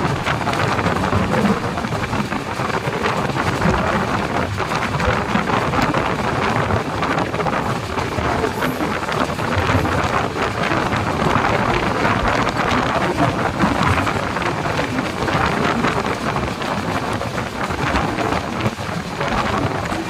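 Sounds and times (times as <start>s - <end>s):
train wheels clattering on rails: 0.0s - 20.0s
wind buffeting microphone: 0.0s - 20.0s.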